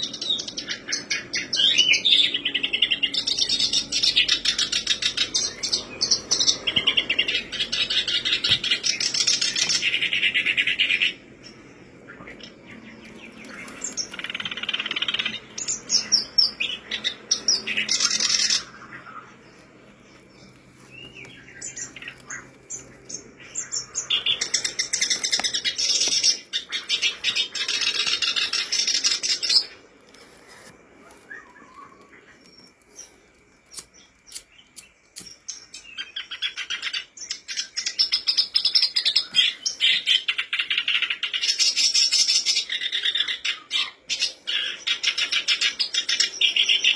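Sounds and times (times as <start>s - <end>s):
warbler rapid chattering song: 0.0s - 30.0s, 30.9s - 46.9s.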